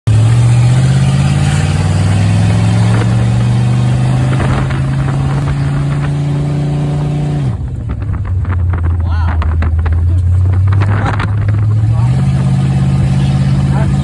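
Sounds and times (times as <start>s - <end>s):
car engine running: 0.1s - 14.0s.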